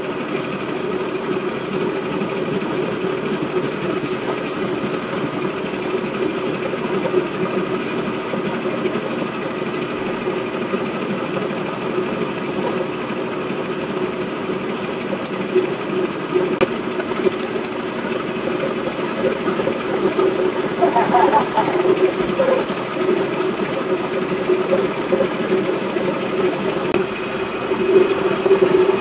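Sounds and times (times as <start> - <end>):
grinding mill running: 0.0 - 29.0.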